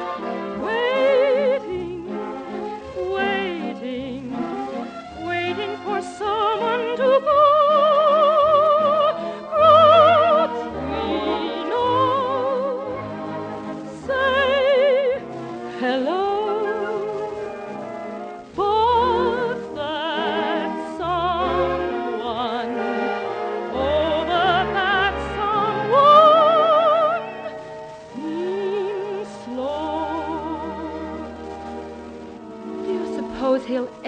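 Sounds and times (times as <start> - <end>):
operatic wordless singing: 0.0 - 31.8, 32.6 - 34.0.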